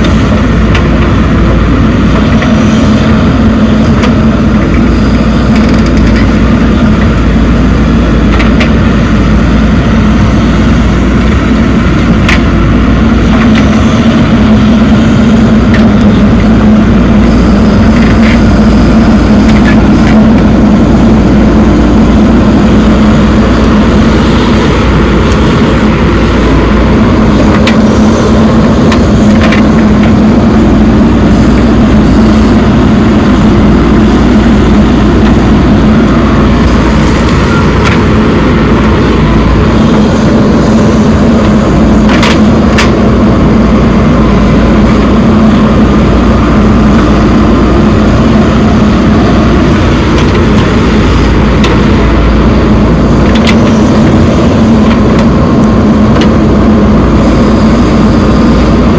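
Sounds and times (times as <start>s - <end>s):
diesel engine under load: 0.0s - 58.9s.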